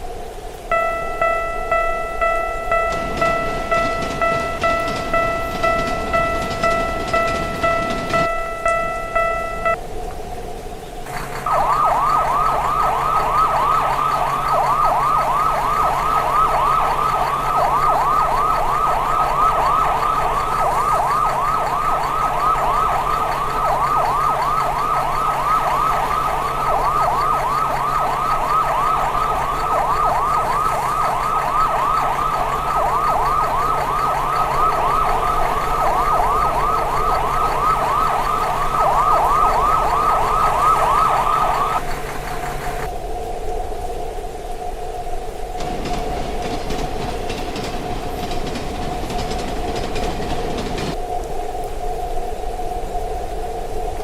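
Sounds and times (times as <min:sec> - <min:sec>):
railroad crossing warning bell: 0:00.7 - 0:09.8, 0:11.4 - 0:41.8, 0:45.6 - 0:51.0.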